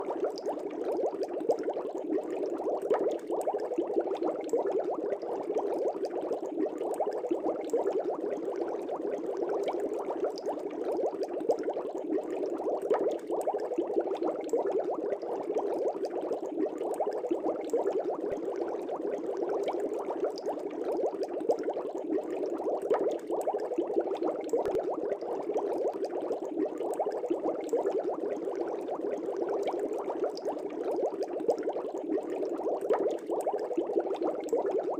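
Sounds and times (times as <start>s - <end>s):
aquarium water bubbling: 0.0s - 34.9s.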